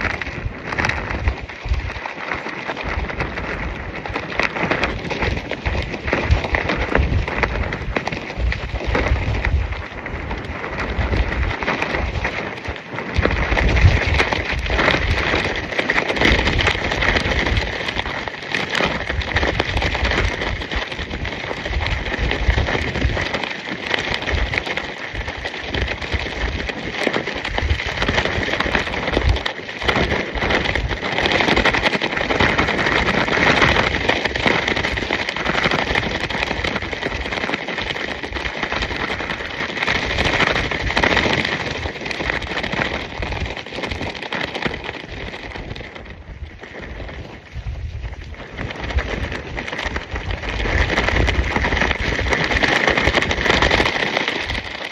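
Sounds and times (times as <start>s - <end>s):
fabric flapping in wind: 0.0s - 54.9s
wind buffeting microphone: 0.0s - 54.9s.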